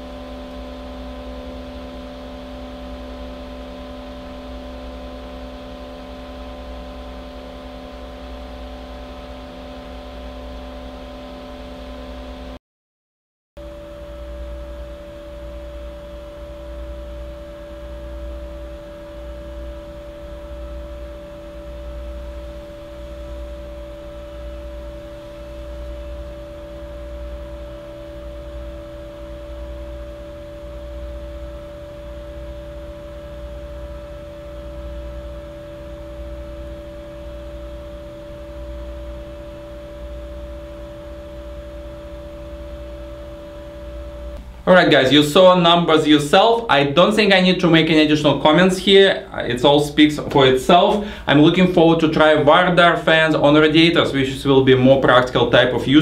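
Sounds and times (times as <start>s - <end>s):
cooling fan whirring: 0.0s - 12.6s, 13.6s - 56.0s.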